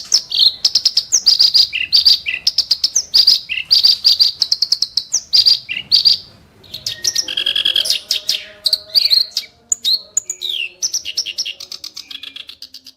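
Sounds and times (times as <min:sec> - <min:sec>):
reed warbler singing: 0:00.0 - 0:12.9.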